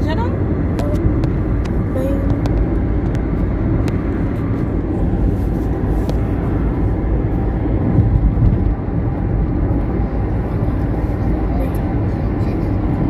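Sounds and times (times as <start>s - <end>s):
car engine rumble: 0.0s - 13.0s
wind noise: 0.0s - 13.0s.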